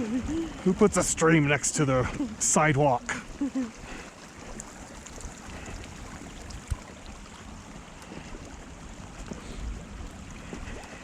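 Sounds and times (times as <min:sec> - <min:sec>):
wind buffeting microphone: 0:00.0 - 0:02.4, 0:03.2 - 0:11.0
small stream running: 0:00.0 - 0:11.0.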